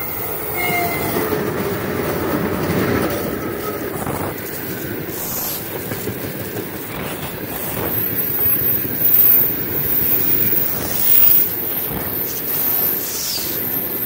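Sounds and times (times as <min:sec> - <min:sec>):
rumble of wheels on rails: 0:00.0 - 0:14.0
wind buffeting microphone: 0:00.1 - 0:12.3.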